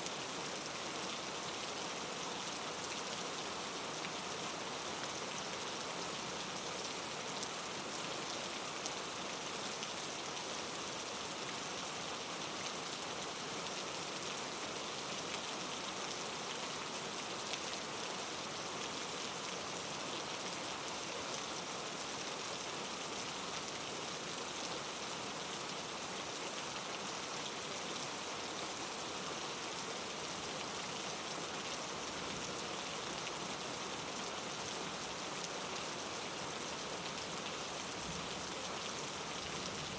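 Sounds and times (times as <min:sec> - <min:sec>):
rain hissing on a surface: 0:00.0 - 0:39.9.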